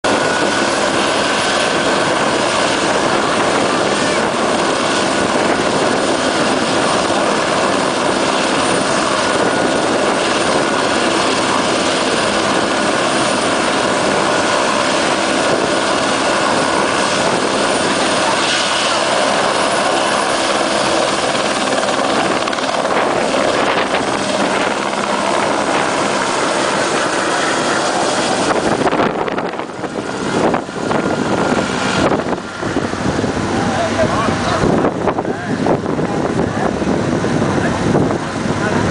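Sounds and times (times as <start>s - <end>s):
helicopter rotor noise: 0.0s - 38.9s
helicopter turbine whine: 0.0s - 38.9s.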